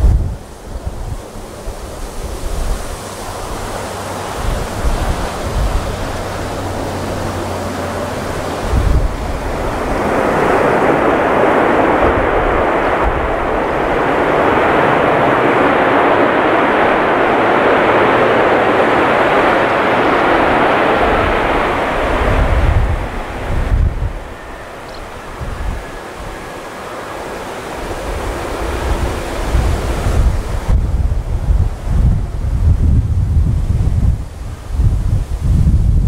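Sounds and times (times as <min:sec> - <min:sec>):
jet engines roaring: 0:00.0 - 0:36.0
wind thumping on microphone: 0:00.0 - 0:36.0.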